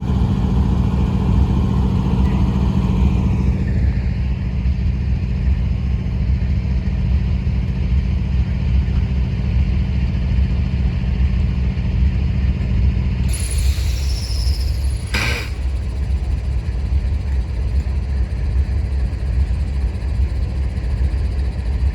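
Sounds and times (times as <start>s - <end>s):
diesel locomotives rumbling: 0.0s - 21.9s.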